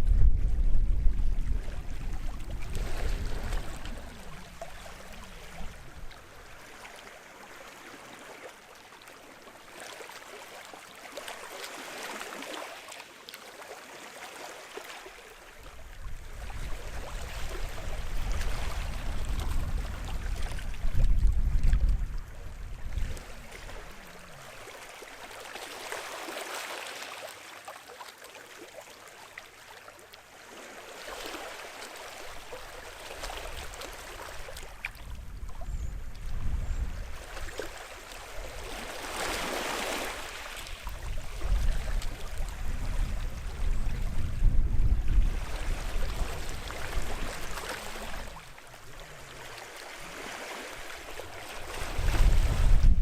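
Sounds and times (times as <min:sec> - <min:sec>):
waves washing onto shore: 0:00.8 - 0:35.5, 0:36.2 - 0:53.0.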